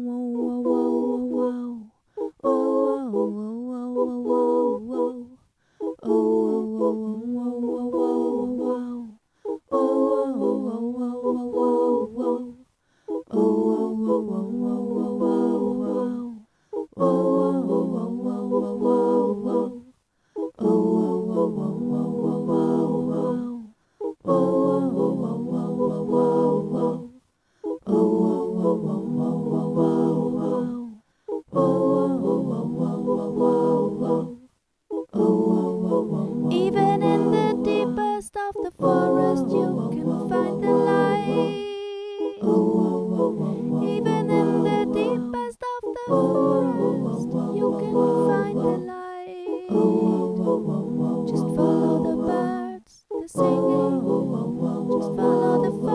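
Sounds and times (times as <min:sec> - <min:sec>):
a cappella singing: 0:00.0 - 0:55.9.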